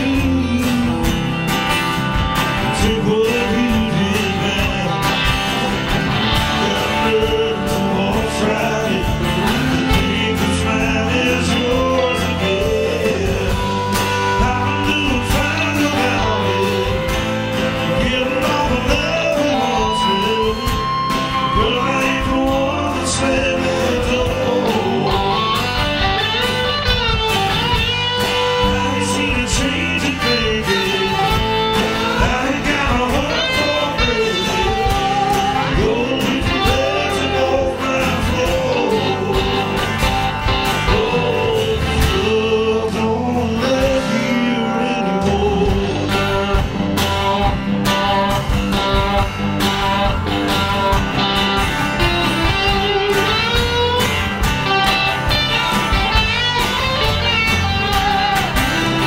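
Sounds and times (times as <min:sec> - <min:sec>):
man singing: 0:00.0 - 0:25.8, 0:27.7 - 0:51.4
live band playing: 0:00.0 - 0:59.0.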